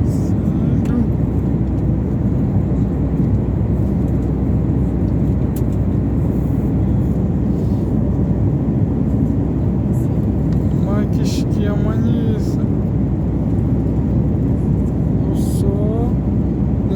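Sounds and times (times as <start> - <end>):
jet engine roar in cabin: 0.0 - 16.9.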